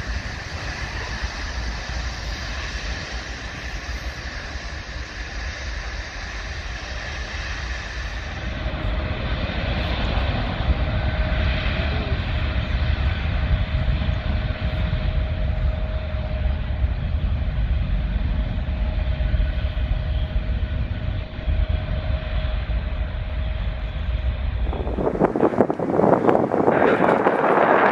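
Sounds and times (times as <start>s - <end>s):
jet engine whine: 0.0s - 27.9s
jet engines deep rumble: 0.0s - 27.9s.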